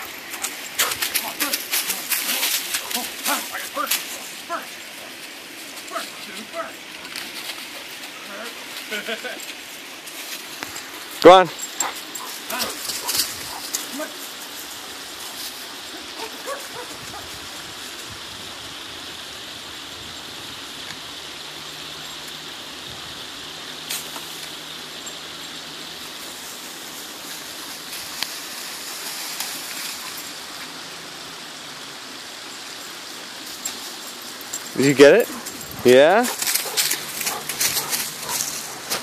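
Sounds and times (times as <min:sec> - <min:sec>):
creek rushing: 0:00.0 - 0:39.0.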